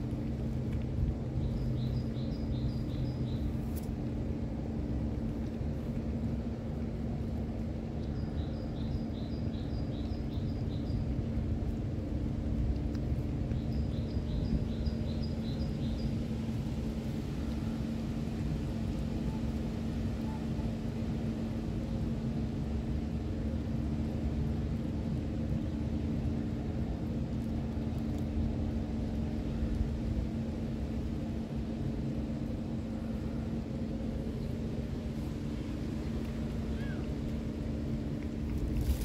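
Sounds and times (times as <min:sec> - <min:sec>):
constant hum: 0:00.0 - 0:39.0
steady low rumble: 0:00.0 - 0:39.0.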